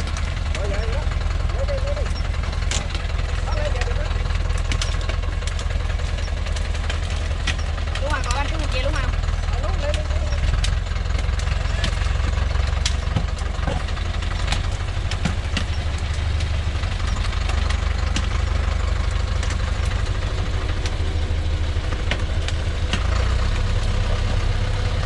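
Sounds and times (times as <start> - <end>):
sharp clicks and cracks: 0.0 - 24.4
truck engine rumbling: 0.0 - 25.0.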